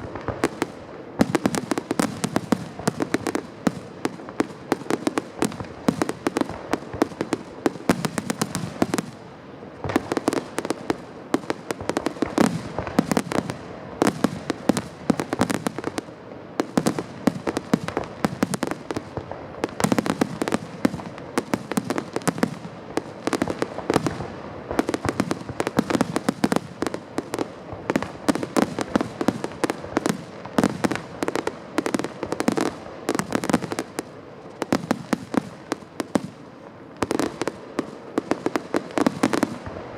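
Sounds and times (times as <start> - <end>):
fireworks barrage: 0.0 - 39.9.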